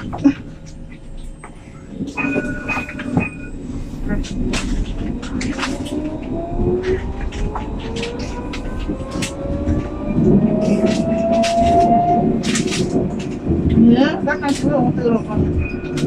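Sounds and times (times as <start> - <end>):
tram motor whine: 0.0 - 16.0
wheels rumbling on rails: 0.0 - 16.0.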